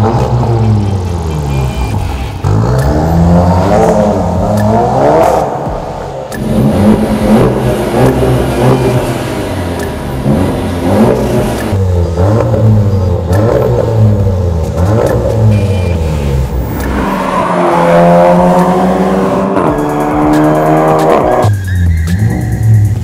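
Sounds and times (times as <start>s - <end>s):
car engine revving: 0.0s - 22.4s
car accelerating hard: 2.4s - 15.5s, 16.1s - 21.5s.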